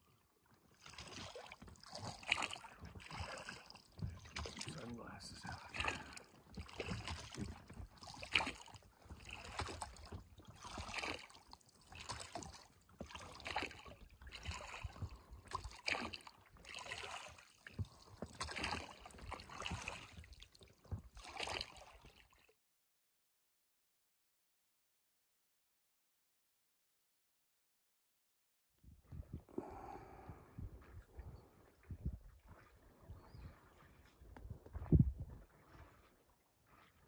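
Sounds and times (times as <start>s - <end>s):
paddle strokes in river water: 0.0s - 22.6s, 28.9s - 37.0s.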